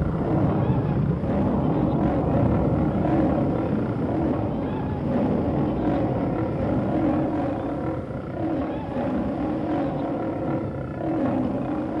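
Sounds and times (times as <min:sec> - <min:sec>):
continuous rumble: 0:00.0 - 0:12.0.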